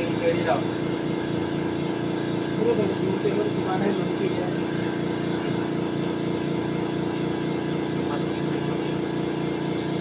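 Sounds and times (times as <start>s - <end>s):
air compressor running: 0.0s - 10.0s.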